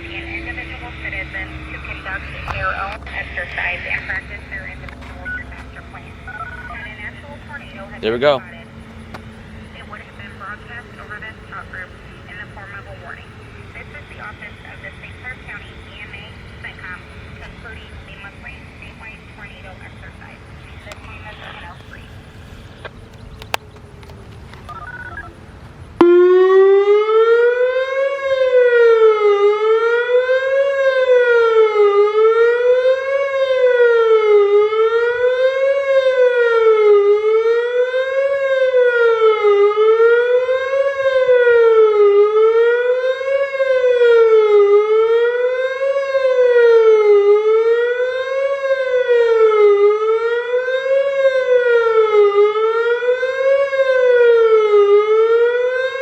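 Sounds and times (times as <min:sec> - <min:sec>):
warning siren fast wail: 0:00.0 - 0:22.7, 0:26.0 - 0:56.0.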